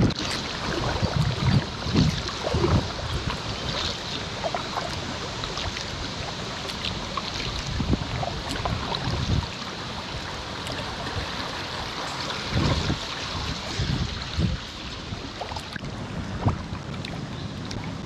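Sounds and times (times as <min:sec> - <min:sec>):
paddle splashing water: 0:00.0 - 0:18.0
rushing river water: 0:00.0 - 0:18.0.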